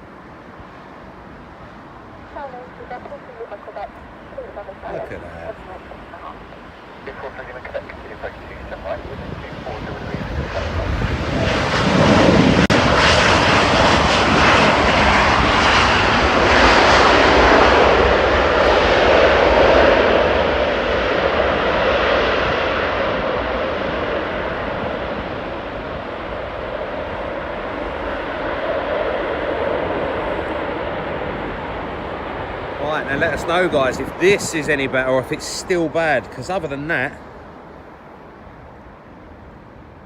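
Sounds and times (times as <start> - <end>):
jet airliner passing: 0.0 - 40.0.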